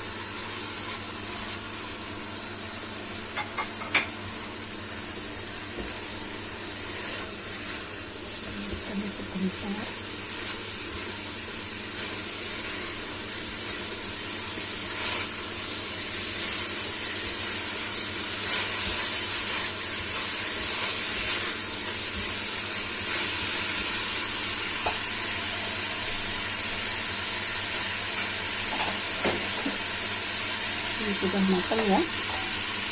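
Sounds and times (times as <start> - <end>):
vegetables and meat sizzling in pan: 0.0 - 32.9.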